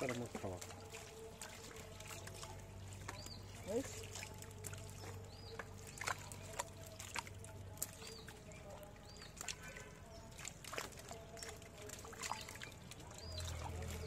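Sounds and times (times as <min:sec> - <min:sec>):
fish flapping and splashing: 0:00.0 - 0:14.0.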